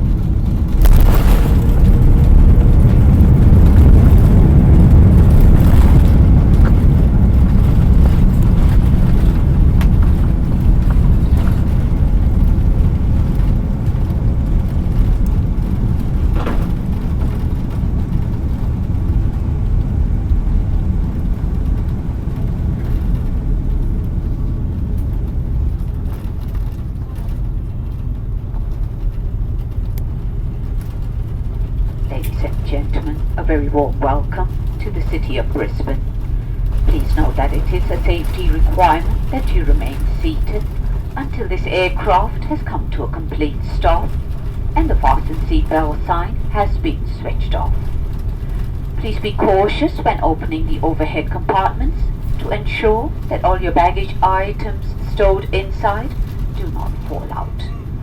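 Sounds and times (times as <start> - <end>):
low rumble of engines and runway: 0.0 - 58.0.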